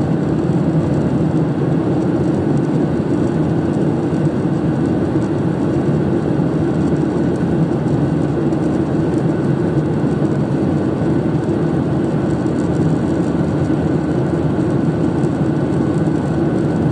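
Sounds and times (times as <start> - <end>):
jet cabin engine and airflow noise: 0.0 - 16.9.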